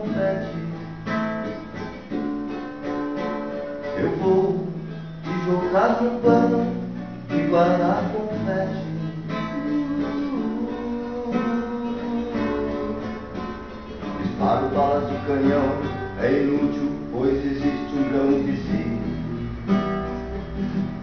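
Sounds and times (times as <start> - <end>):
man singing: 0.0 - 1.1, 3.9 - 19.7
acoustic guitar strumming chords: 0.0 - 21.0.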